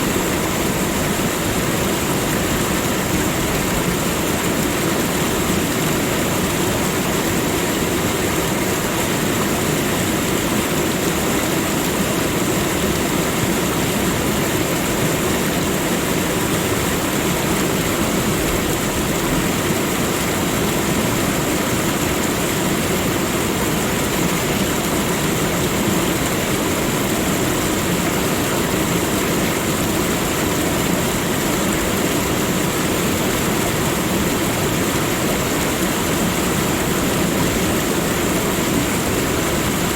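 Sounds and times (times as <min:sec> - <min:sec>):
steady rushing nature ambience: 0:00.0 - 0:39.9.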